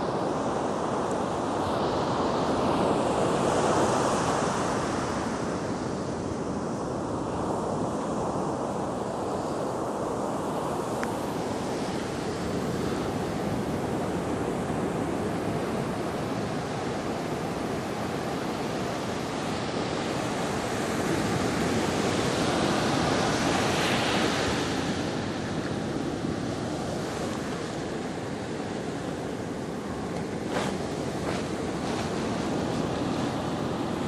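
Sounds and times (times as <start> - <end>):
surf washing up a beach: 0.0 - 34.0.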